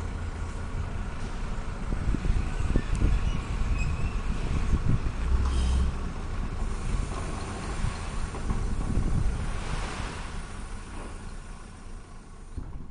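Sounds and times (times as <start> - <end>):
forklift rumbling under load: 0.0 - 12.9
wind buffeting microphone: 0.8 - 10.9, 12.5 - 12.9.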